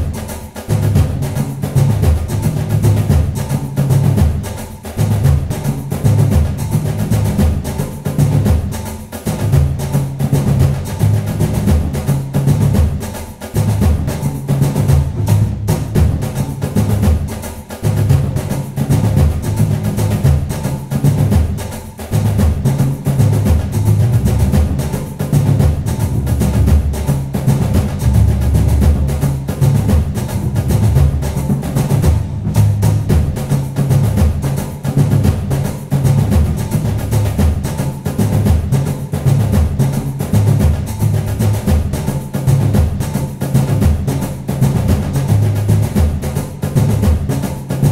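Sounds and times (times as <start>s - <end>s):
percussive music with bass: 0.0s - 47.9s.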